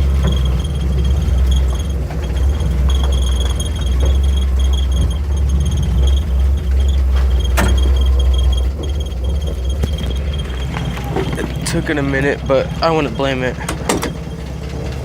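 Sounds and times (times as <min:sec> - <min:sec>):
engine running low rumble: 0:00.0 - 0:15.0.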